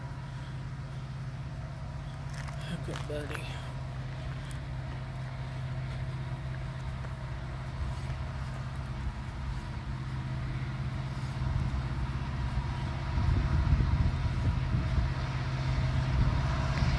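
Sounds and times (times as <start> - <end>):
diesel locomotive engines droning: 0.0 - 16.9.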